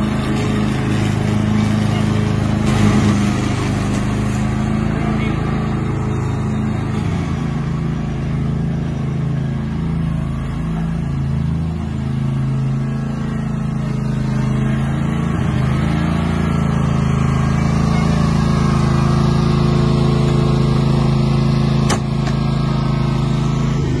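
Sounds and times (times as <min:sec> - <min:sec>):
lawn tractor engine mowing: 0:00.0 - 0:24.0.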